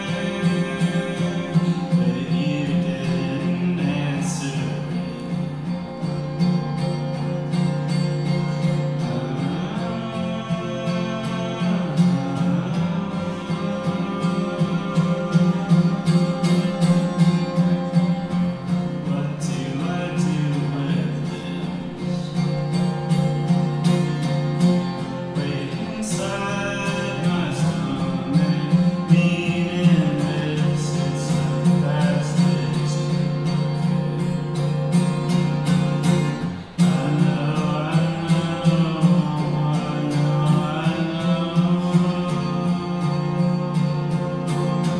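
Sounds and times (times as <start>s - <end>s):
man singing: 0.0s - 6.0s, 7.7s - 44.9s
strummed acoustic guitar: 0.0s - 44.9s.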